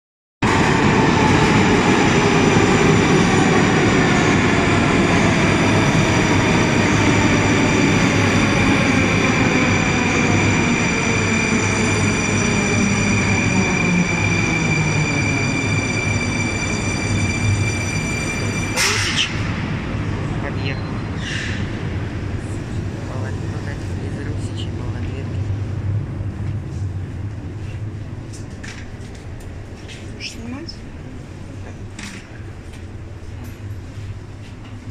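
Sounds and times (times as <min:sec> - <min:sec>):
train wheels rumbling on rails: 0:00.4 - 0:34.9.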